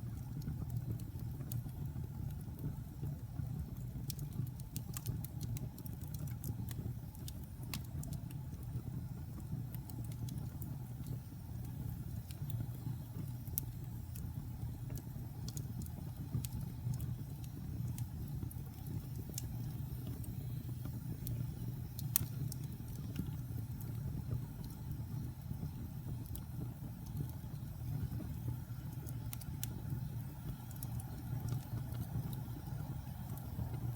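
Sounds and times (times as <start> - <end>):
fire crackling and popping: 0.0 - 33.9
fire flames rumbling: 0.0 - 33.9.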